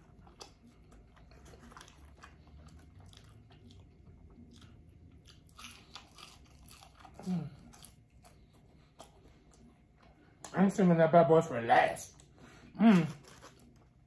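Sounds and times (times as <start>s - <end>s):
chewing food: 0.0s - 10.8s, 12.1s - 14.0s.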